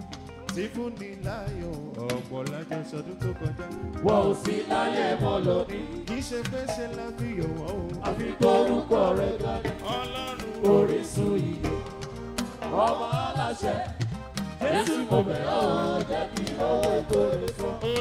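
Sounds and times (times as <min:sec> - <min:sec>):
live band music: 0:00.0 - 0:18.0
drum hits: 0:00.3 - 0:18.0
voices singing: 0:02.3 - 0:18.0.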